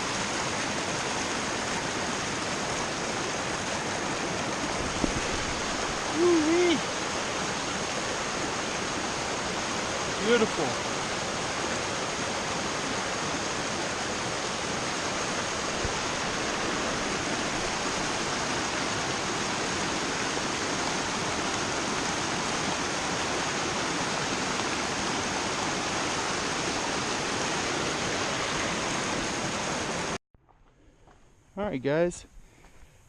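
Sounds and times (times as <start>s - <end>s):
creek and small waterfall rushing: 0.0s - 30.2s.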